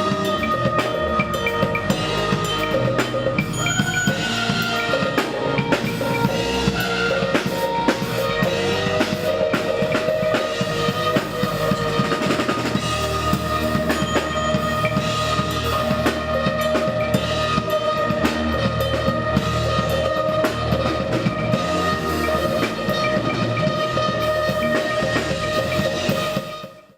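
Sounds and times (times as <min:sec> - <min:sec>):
drum kit: 0:00.0 - 0:26.9
jazz-soul band playing: 0:00.0 - 0:26.9.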